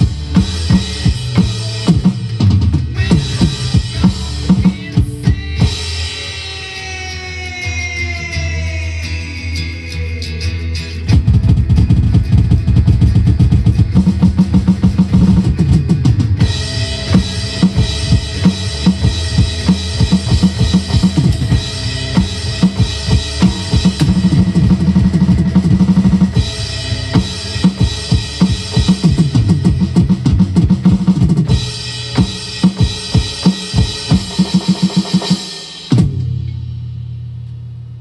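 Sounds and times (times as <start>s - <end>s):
drum kit played hard: 0.0s - 38.0s.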